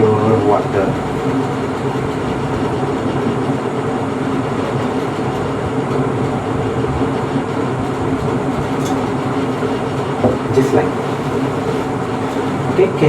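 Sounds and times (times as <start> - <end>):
machinery hum and rumble: 0.0 - 13.0.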